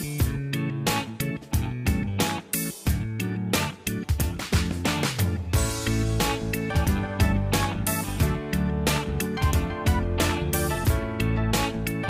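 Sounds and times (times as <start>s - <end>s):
music with quick beat: 0.0s - 12.0s.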